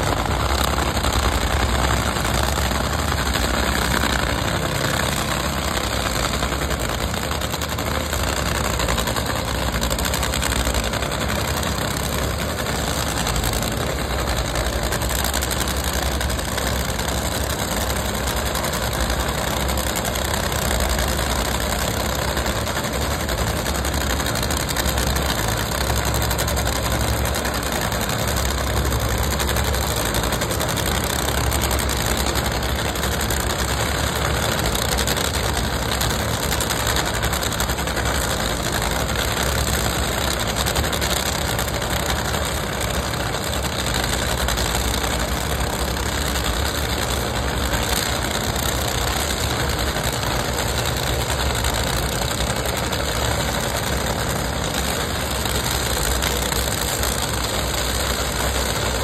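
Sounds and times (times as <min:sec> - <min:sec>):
race car engines idling: 0:00.0 - 0:59.0.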